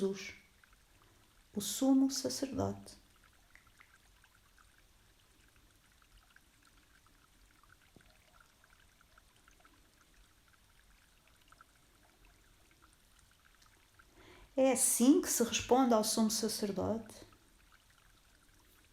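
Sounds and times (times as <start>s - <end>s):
soft hiss: 0.0s - 18.9s.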